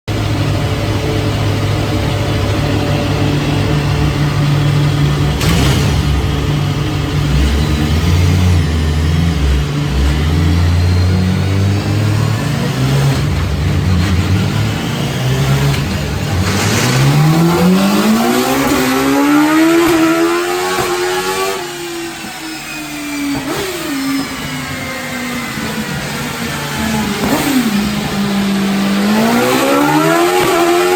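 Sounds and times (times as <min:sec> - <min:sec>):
motorcycle engine revving: 0:00.2 - 0:30.9.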